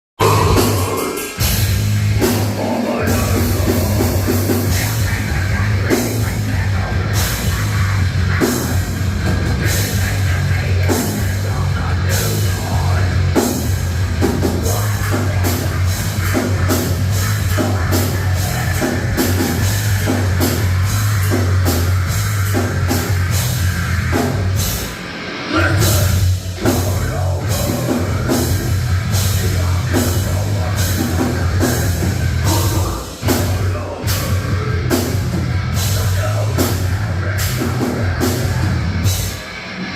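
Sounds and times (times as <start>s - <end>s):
drum kit: 0.2s - 39.9s
rock band playing: 0.2s - 39.9s
steady bass line: 0.2s - 39.9s.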